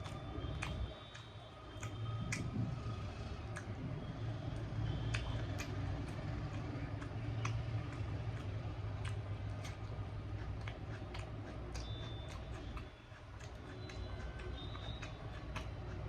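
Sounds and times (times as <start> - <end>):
person chewing with mouth smacks: 0.0 - 16.0
steady low hum: 0.0 - 16.0.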